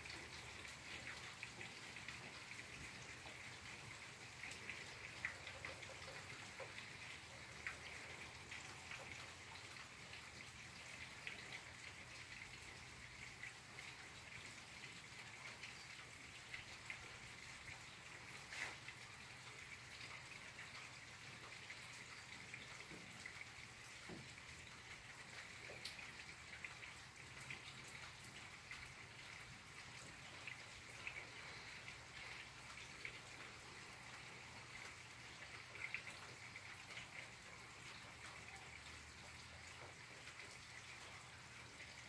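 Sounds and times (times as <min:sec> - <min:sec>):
light rain falling: 0:00.0 - 0:42.0.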